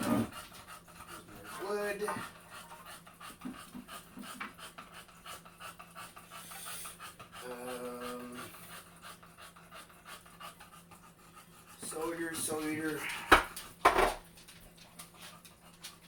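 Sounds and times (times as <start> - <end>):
rapid panting breaths: 0.0 - 13.8.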